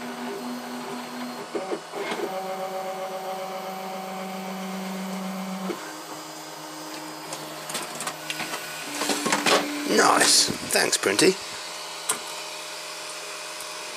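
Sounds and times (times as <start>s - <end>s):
stepper motors whining: 0.0s - 13.9s.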